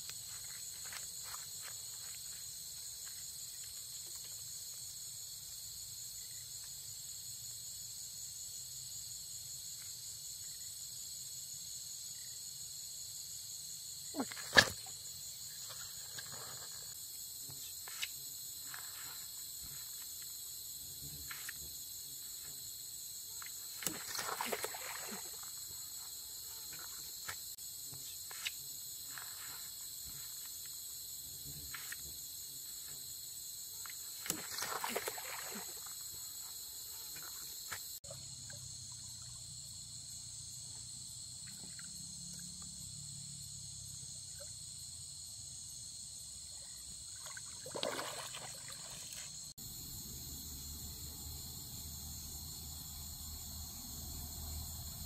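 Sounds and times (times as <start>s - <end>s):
crickets and insects trilling: 0.0s - 55.0s.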